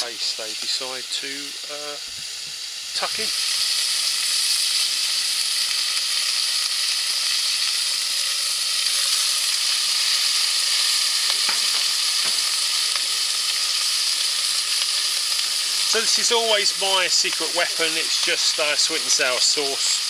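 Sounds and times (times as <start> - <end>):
bacon sizzling in a pot: 0.0 - 20.0.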